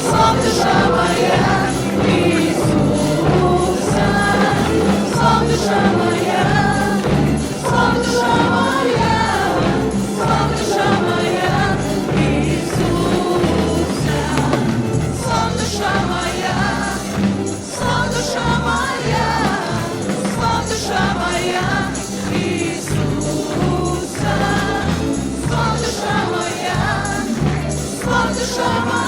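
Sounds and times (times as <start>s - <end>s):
band with steady bass beat: 0.0s - 29.0s
group of singers: 0.0s - 29.0s.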